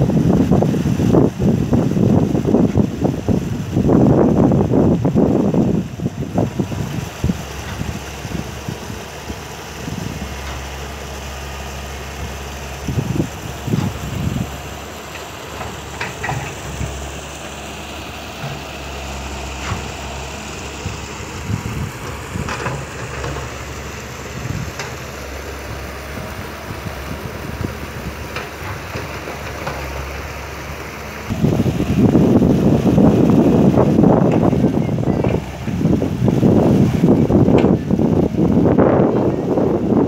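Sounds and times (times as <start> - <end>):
diesel engine idling: 0.0 - 40.0
loud rushing noise: 5.5 - 37.6.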